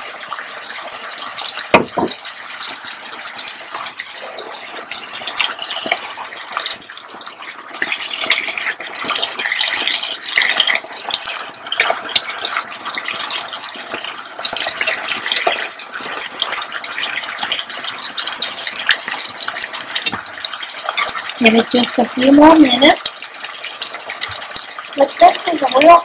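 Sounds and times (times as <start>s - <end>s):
stir fry sizzling: 0.0s - 26.0s.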